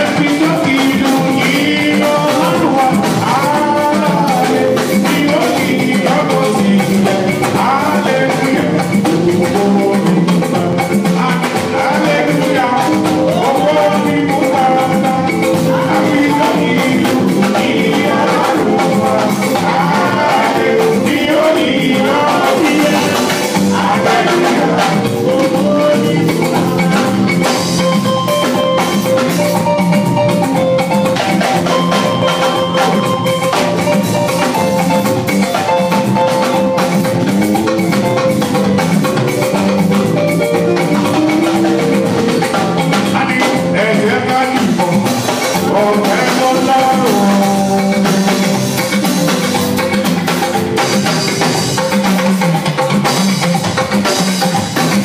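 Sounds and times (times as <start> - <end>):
drums and percussion beat: 0.0 - 55.0
loud band music: 0.0 - 55.0.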